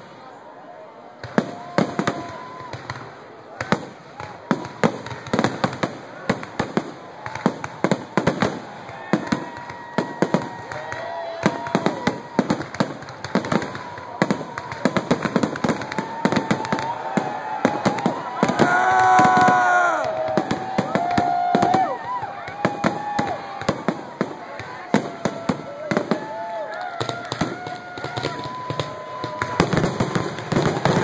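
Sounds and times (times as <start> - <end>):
fireworks bursting and crackling: 1.1 - 31.0
people whooping: 1.4 - 2.8, 7.2 - 31.0.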